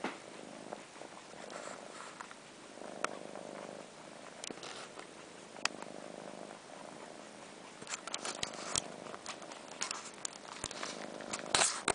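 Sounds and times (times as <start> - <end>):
kittens purring: 0.0 - 11.9.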